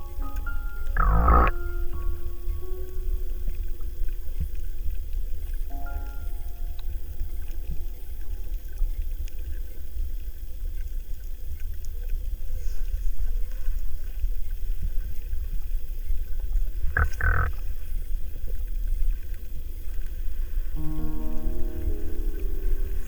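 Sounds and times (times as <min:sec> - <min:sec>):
faint ticks and clicks: 0:00.0 - 0:23.0
underwater rumble: 0:00.0 - 0:23.0.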